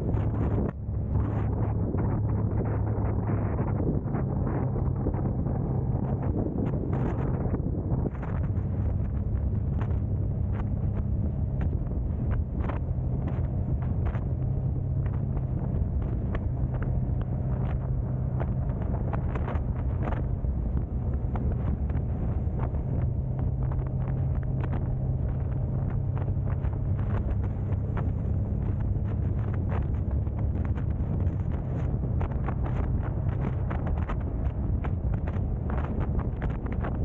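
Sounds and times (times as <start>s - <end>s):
car engine and road noise: 0.0s - 37.0s
wind buffeting microphone: 0.0s - 37.0s.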